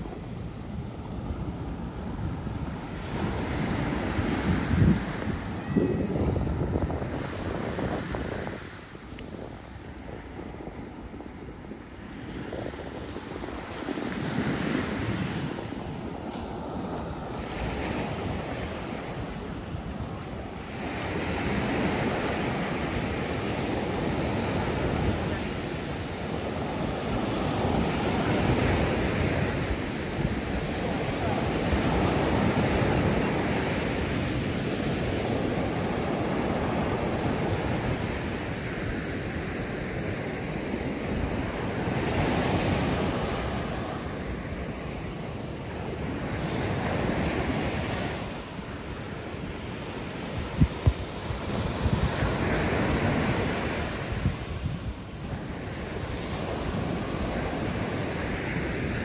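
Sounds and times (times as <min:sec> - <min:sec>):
surf washing onto beach: 0:00.0 - 0:59.0
wind buffeting microphone: 0:00.0 - 0:59.0.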